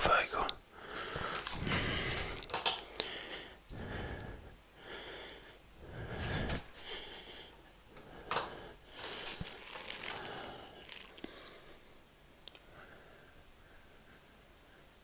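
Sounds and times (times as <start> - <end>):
person breathing: 0.1 - 15.0.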